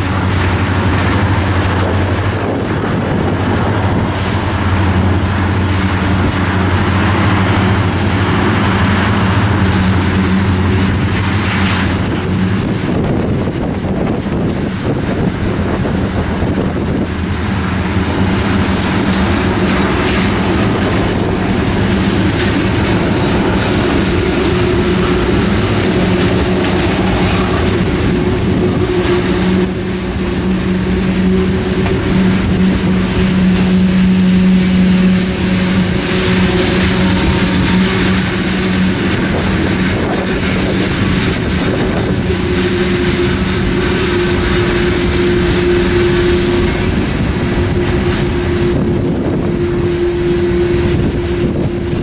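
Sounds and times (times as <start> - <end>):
steady low hum: 0.0 - 52.0
steel wheels on rails: 0.0 - 52.0.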